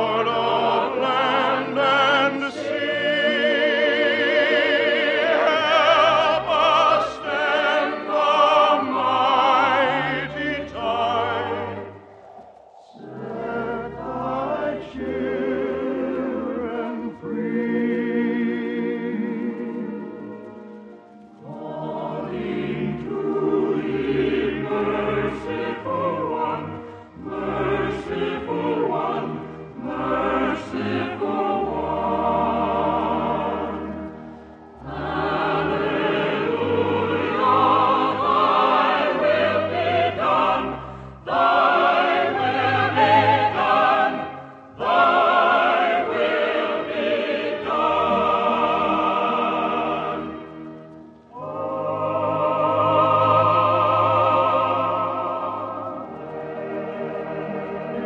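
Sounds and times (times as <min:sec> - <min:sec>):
choir singing with orchestra: 0:00.0 - 0:58.0.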